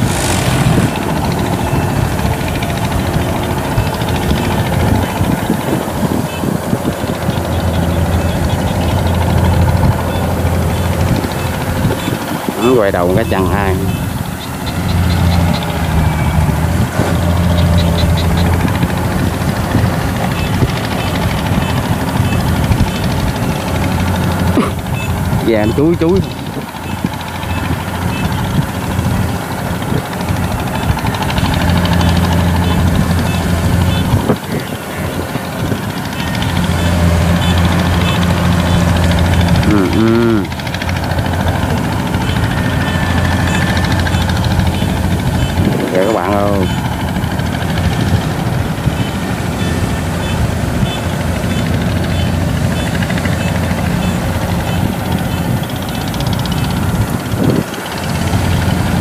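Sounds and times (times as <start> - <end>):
combine harvester engine: 0.0 - 59.0.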